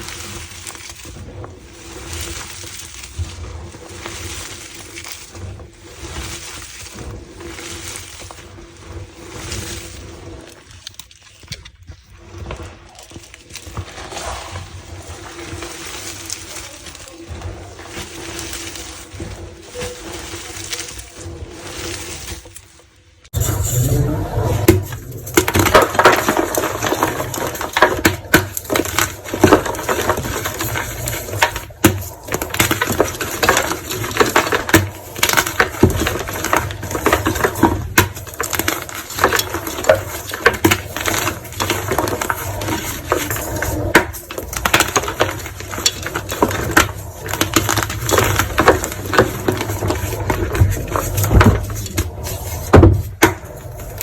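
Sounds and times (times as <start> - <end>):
brittle material crunching: 0.0 - 54.0.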